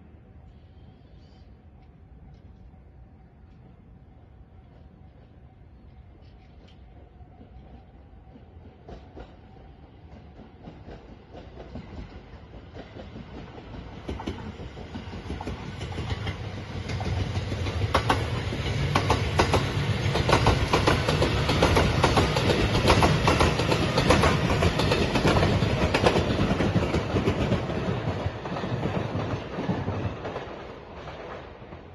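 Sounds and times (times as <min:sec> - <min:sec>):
train passing at speed: 0:00.0 - 0:31.9.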